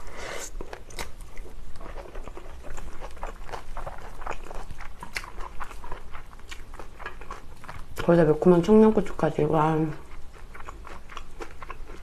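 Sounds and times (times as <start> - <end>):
close chewing and lip smacks: 0.5 - 8.3, 9.0 - 12.0.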